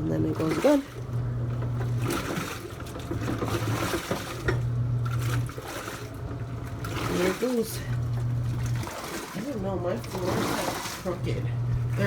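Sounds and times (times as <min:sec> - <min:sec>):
washing machine motor humming: 0:00.0 - 0:12.0
water and clothes sloshing: 0:00.0 - 0:12.0.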